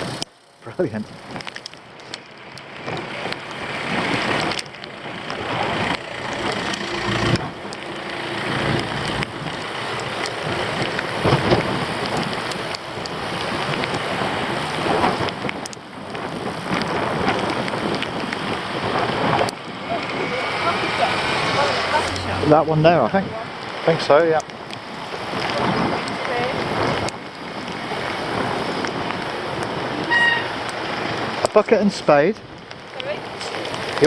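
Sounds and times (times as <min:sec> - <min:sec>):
wind buffeting microphone: 0:02.1 - 0:31.6.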